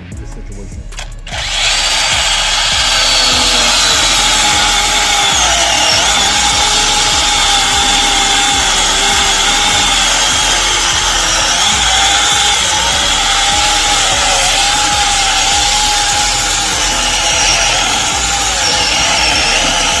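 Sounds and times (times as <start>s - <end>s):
mini chainsaw cutting log: 1.0s - 20.0s.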